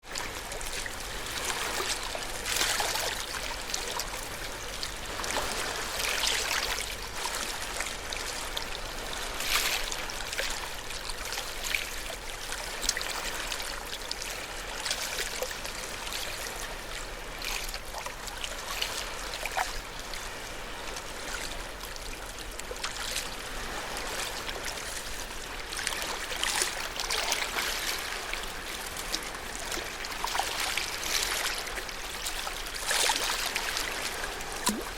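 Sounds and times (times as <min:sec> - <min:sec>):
ocean waves washing ashore: 0:00.0 - 0:34.9.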